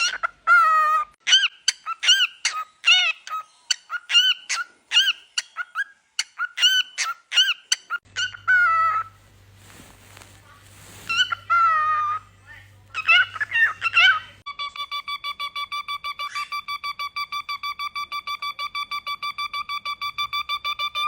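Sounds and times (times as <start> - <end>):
cockatiel chirping: 0.0 - 21.0.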